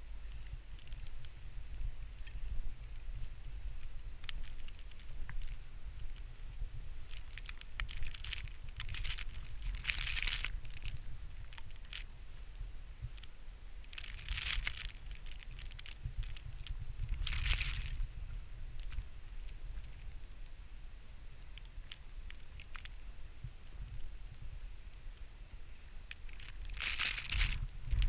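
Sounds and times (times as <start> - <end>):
crunching rustling noise: 0.0 - 28.0
wind rumbling on microphone: 0.0 - 28.0.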